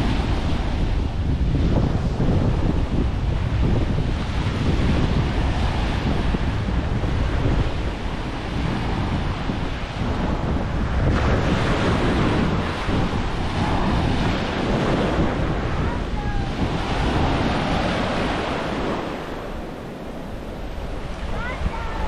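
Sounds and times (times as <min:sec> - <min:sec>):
sea surf washing onto beach: 0:00.0 - 0:22.0
wind buffeting microphone: 0:00.0 - 0:22.0.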